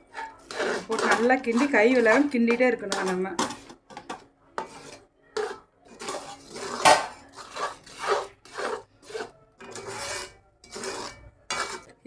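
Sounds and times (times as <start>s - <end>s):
ladle scraping a pan: 0.0s - 12.0s.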